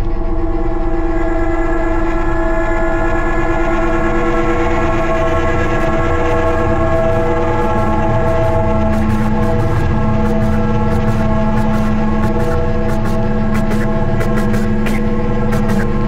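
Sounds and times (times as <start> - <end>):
music of sustained chords: 0.0 - 16.0.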